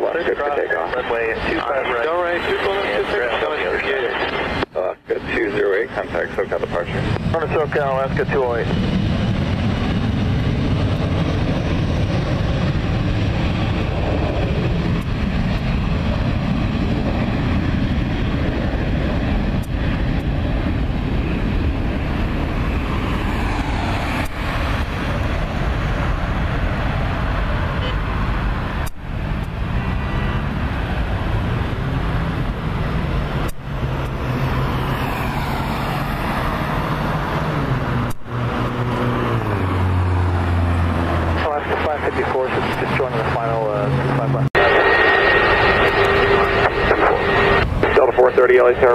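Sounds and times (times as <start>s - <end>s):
engines rumbling: 0.0s - 48.9s
traffic noise: 0.0s - 48.9s.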